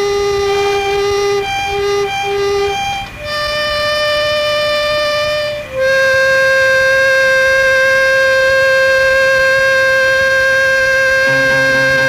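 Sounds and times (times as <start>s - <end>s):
slow instrumental melody: 0.0s - 12.0s.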